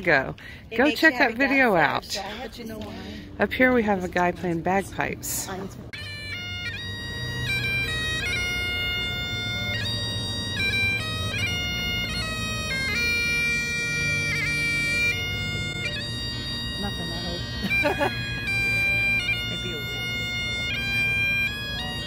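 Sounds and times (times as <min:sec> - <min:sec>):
bagpipes playing: 0:00.0 - 0:22.0.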